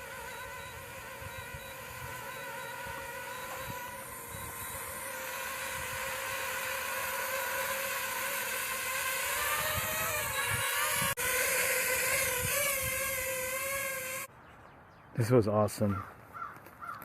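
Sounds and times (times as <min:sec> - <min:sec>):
drone propellers whining: 0:00.0 - 0:14.3.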